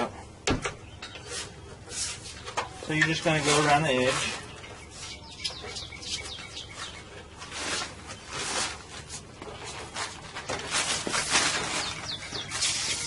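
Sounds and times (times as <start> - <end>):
small birds chirping: 0.6 - 13.0.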